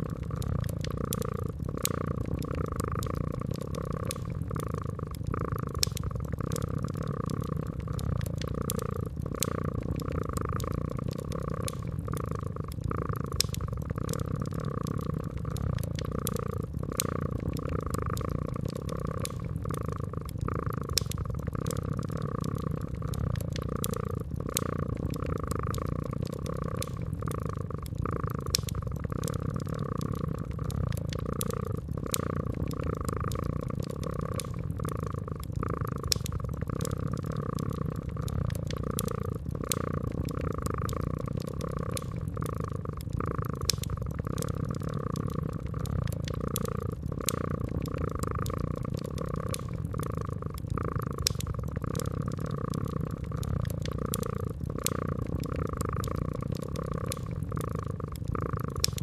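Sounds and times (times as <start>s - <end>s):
cat purring: 0.0s - 59.0s
wood fire crackling: 0.0s - 59.0s.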